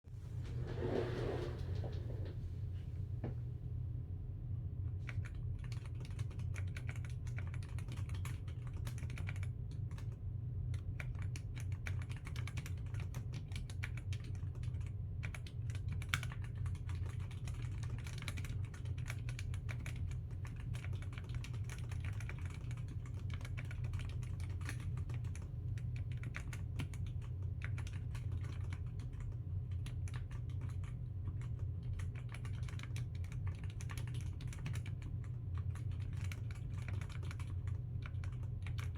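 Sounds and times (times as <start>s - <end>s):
low steady hum: 0.1s - 38.9s.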